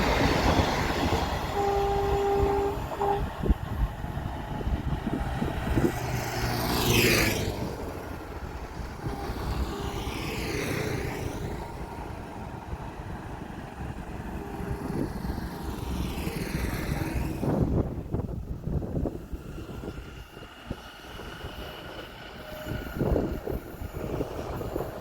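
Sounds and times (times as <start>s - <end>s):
steady traffic rumble: 0.0s - 25.0s
vehicle passing by: 2.8s - 25.0s.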